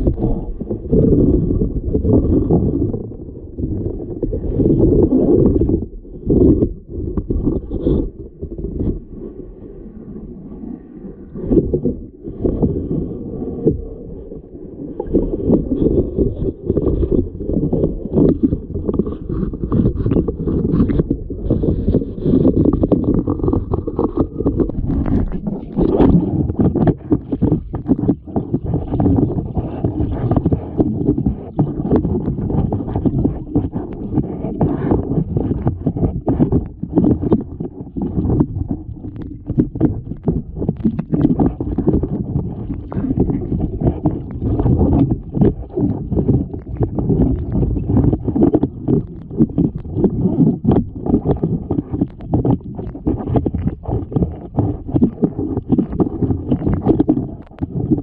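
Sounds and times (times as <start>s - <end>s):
water sloshing and splashing: 10.6s - 58.0s.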